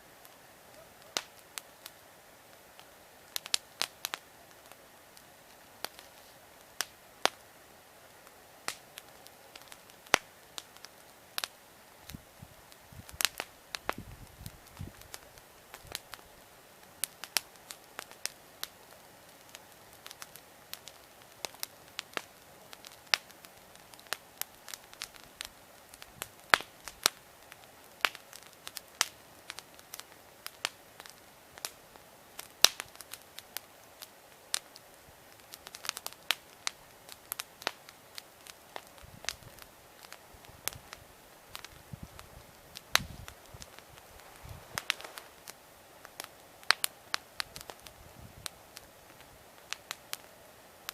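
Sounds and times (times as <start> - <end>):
campfire crackling: 0.0 - 50.9
faint steady hiss: 0.0 - 50.9.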